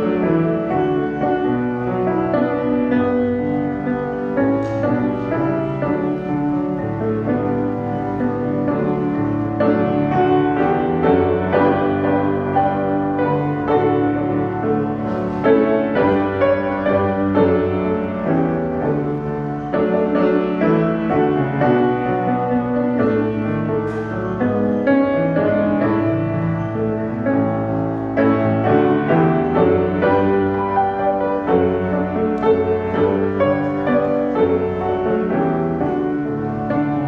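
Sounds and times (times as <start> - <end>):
slow piano chords and melody: 0.0 - 37.0.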